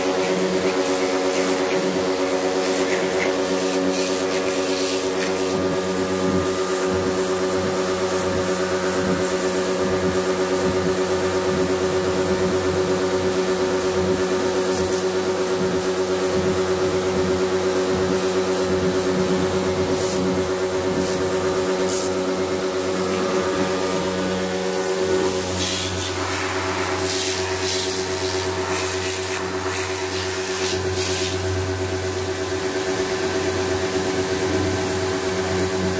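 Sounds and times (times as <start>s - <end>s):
water jet spraying on metal coil: 0.0s - 33.4s
pressure washer pump hum: 0.0s - 35.9s.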